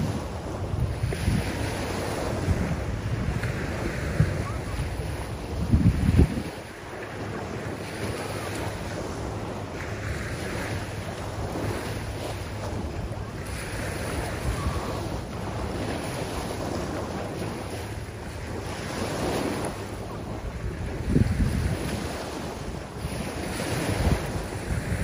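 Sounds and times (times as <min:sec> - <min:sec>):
small waves breaking on beach: 0:00.0 - 0:25.0
wind rumbling on microphone: 0:00.0 - 0:25.0.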